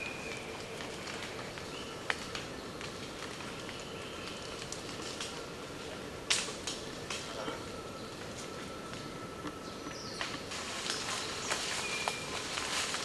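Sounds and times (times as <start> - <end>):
steady forest hiss: 0.0 - 13.0
twigs snapping and crackling: 0.0 - 13.0.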